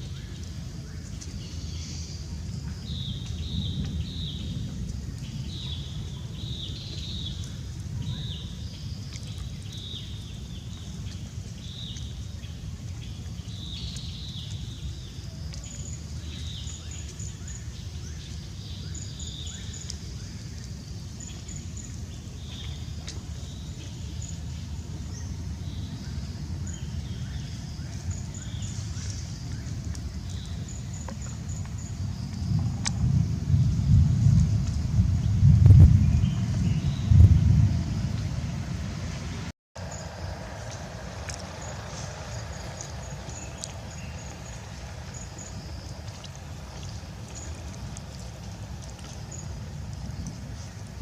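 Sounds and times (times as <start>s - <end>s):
steady low rumble: 0.0s - 51.0s.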